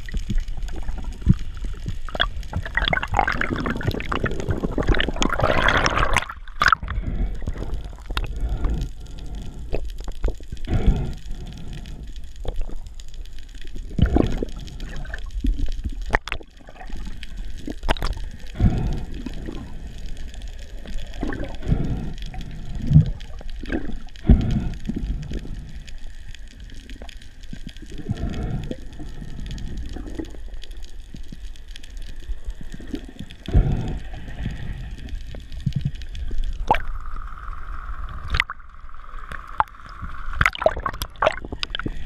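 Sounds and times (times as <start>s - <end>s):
underwater rushes and thumps: 0.0s - 42.0s.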